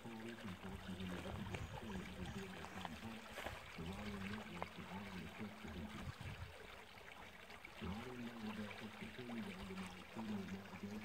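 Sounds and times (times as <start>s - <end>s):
water trickling from culvert: 0.0s - 11.0s.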